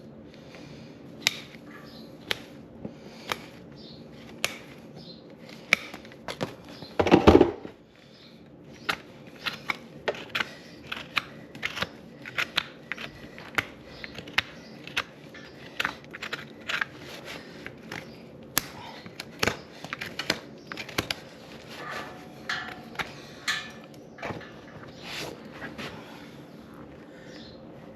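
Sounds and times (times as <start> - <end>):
tools cutting hoof: 1.2 - 7.5, 8.8 - 26.3.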